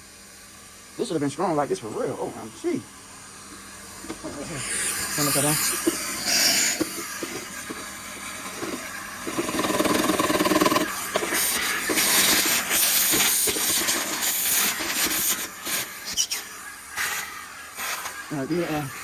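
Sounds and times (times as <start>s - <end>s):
vacuum hose sucking air: 1.0s - 19.0s.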